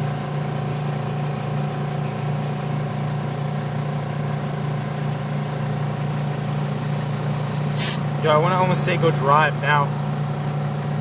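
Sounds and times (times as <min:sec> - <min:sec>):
tire inflator compressor buzzing: 0:00.0 - 0:11.0.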